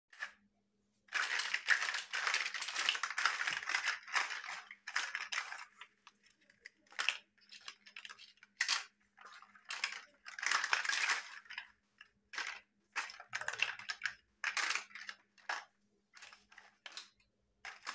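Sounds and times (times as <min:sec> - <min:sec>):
plastic blocks clattering: 0:00.1 - 0:00.4, 0:01.1 - 0:17.9.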